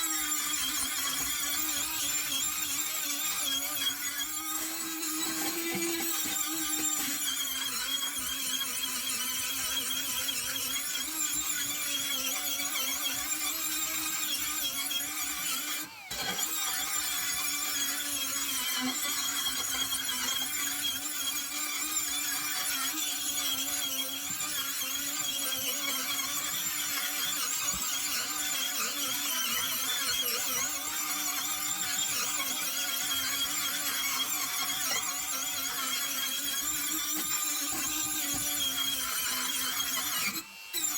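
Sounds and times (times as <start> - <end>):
rotary tool whining on metal: 0.0 - 40.9.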